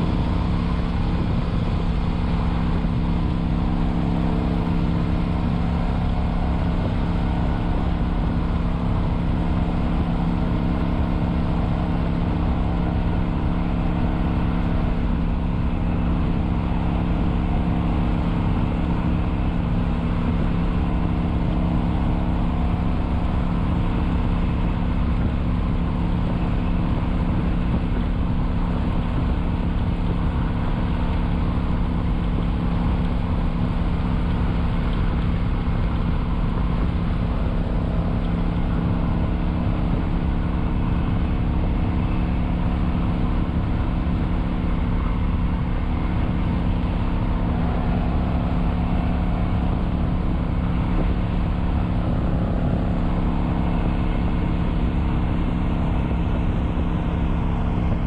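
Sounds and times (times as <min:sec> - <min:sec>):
motorcycle engine cruising: 0:00.0 - 0:58.0
wind rumble on microphone: 0:00.0 - 0:58.0.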